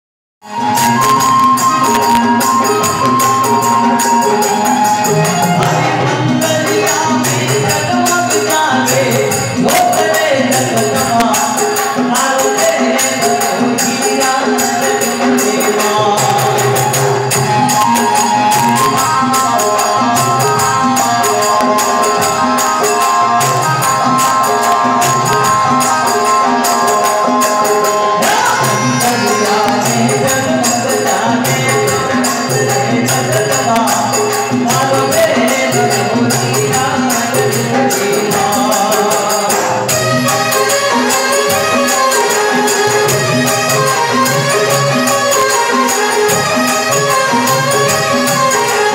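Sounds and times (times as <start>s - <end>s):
dholak drum beats: 0.4s - 48.9s
harmonium and keyboard melody: 0.4s - 48.9s
long held melodic line: 0.4s - 48.9s
jingling hand percussion: 0.5s - 48.9s.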